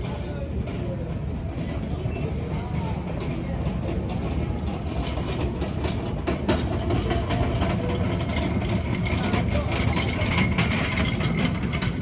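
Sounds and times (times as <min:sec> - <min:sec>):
faint busy background: 0:00.0 - 0:12.0
low machinery rumble: 0:00.0 - 0:12.0.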